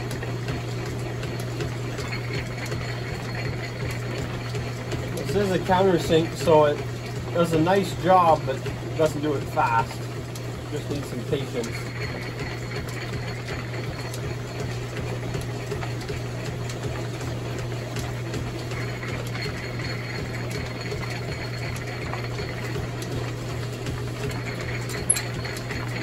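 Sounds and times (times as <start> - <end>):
drill press running: 0.0 - 26.0.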